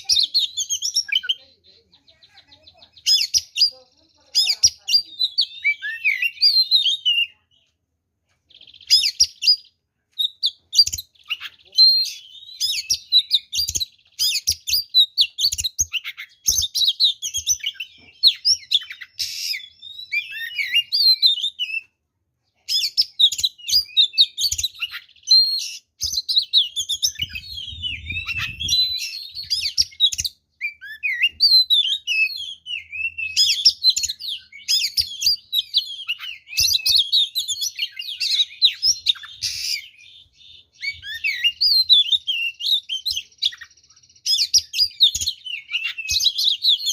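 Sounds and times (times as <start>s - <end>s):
magpie-robin singing: 0.0s - 7.7s, 8.5s - 46.9s.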